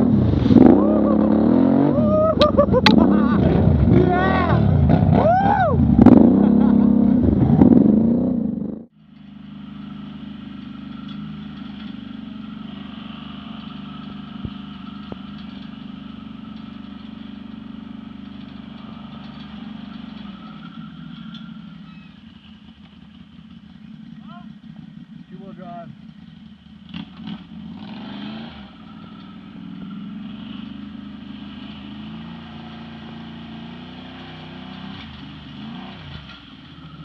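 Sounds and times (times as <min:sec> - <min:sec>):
atv engine cruising: 0:00.0 - 0:37.0
atv engines revving: 0:00.0 - 0:37.0.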